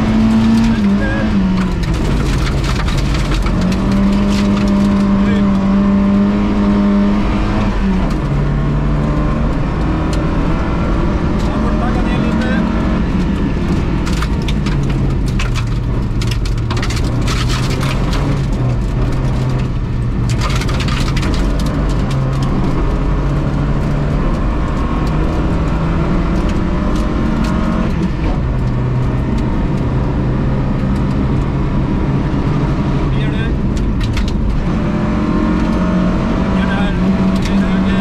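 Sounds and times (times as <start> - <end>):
gravel crackling against car underside: 0.0 - 6.0, 7.5 - 38.0
car engine running hard: 0.0 - 38.0.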